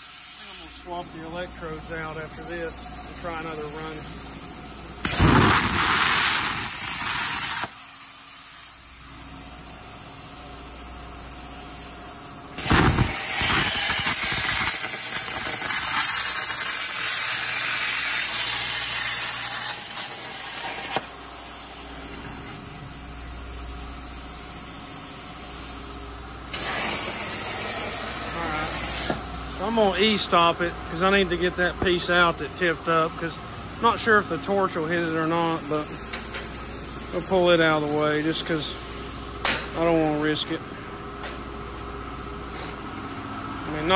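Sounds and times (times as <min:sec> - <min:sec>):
plasma cutter hissing: 0:00.0 - 0:40.5.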